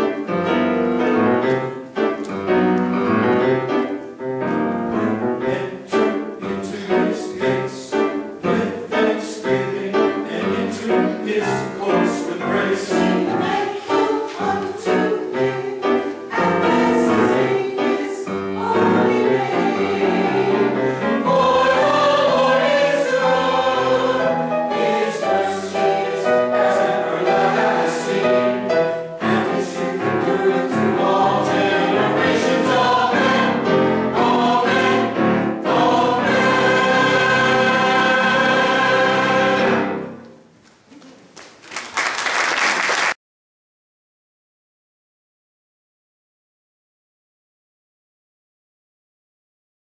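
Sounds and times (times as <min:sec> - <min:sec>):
choir singing in parts: 0:00.0 - 0:40.4.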